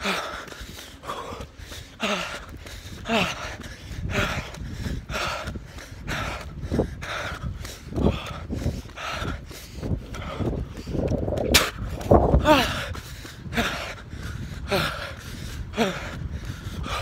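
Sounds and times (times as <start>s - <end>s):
runner panting: 0.0s - 17.0s.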